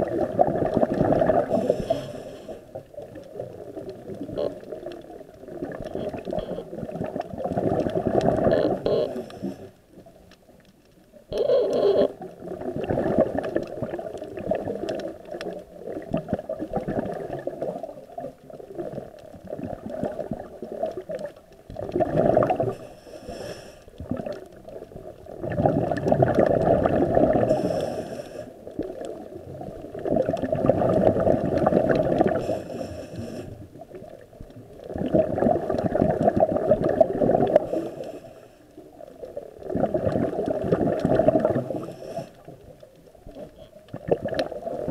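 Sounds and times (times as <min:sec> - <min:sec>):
underwater bubbles gurgling: 0:00.0 - 0:44.9.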